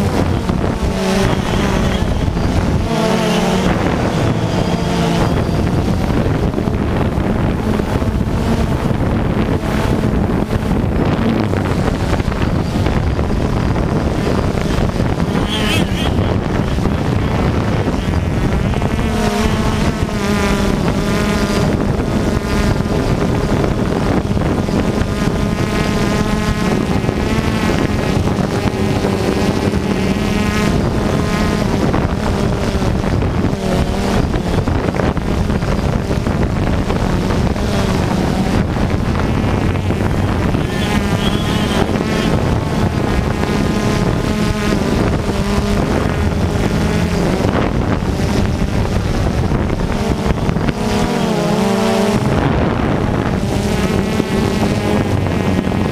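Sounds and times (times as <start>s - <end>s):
rc cars revving whines: 0.0s - 55.9s.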